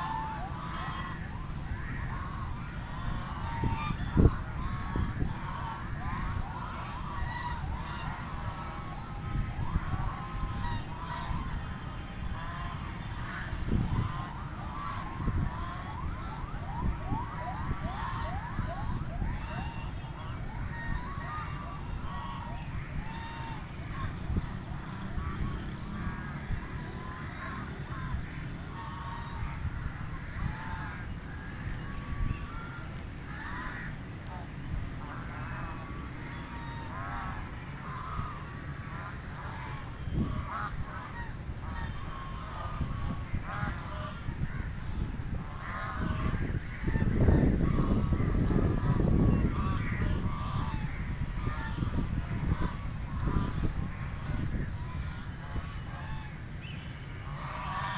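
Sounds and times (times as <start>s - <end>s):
ducks calling: 0.0s - 57.9s
low wind rumble: 0.0s - 57.9s.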